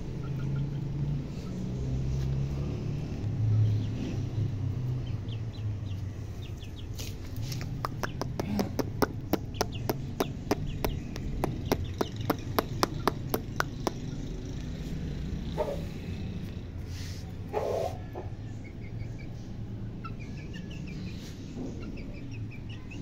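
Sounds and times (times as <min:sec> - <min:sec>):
high chick peeps: 0:00.0 - 0:02.3, 0:05.1 - 0:14.9, 0:15.5 - 0:23.0
chickens pecking on tiled floor: 0:00.1 - 0:23.0.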